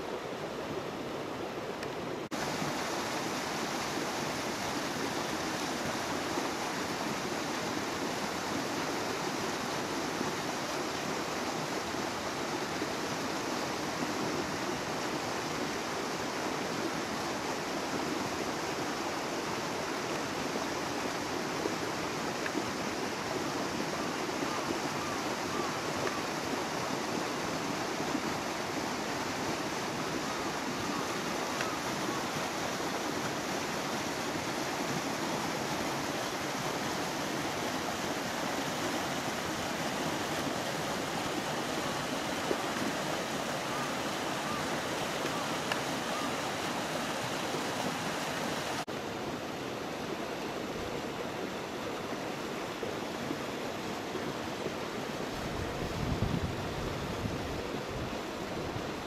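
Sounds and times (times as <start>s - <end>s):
river rushing over boulders: 0.0s - 59.0s.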